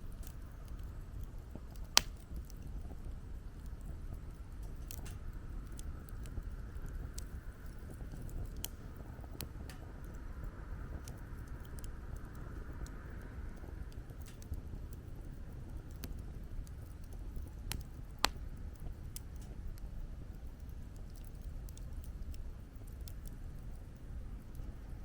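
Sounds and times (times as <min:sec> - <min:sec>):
campfire crackling and popping: 0:00.0 - 0:24.9
low wind rumble: 0:00.0 - 0:25.0.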